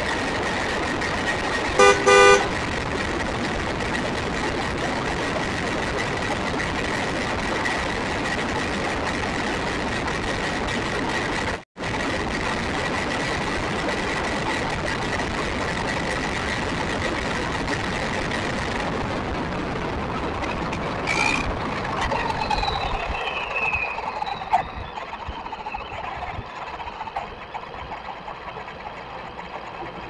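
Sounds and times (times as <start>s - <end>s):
tyre and wind noise: 0.0s - 30.0s.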